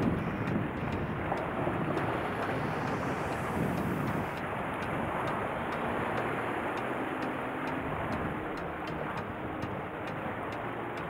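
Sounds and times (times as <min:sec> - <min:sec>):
wind on microphone: 0:00.0 - 0:07.1, 0:07.7 - 0:10.7
faint ticking: 0:00.0 - 0:11.0
sea noise: 0:00.0 - 0:11.0.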